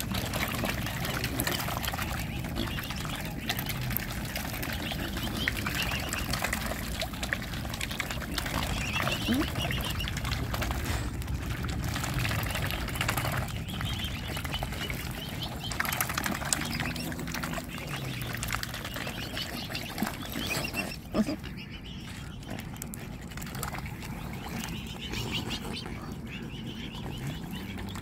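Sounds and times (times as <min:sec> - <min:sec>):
water splashing: 0:00.0 - 0:28.0.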